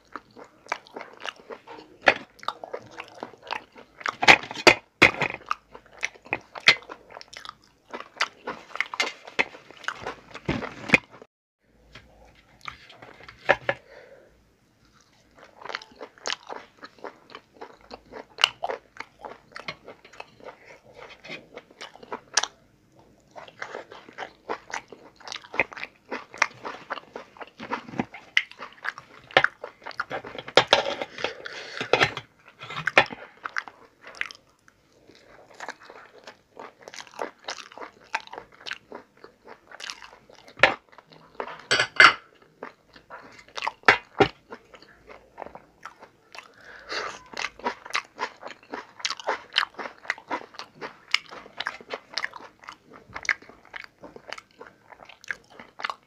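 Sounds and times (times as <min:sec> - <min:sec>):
man chewing food: 0:00.0 - 0:11.3, 0:14.8 - 0:56.0.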